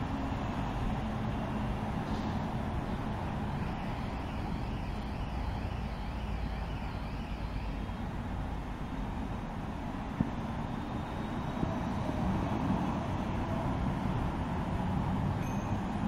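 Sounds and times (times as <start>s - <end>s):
distant road traffic rumble: 0.0s - 16.0s.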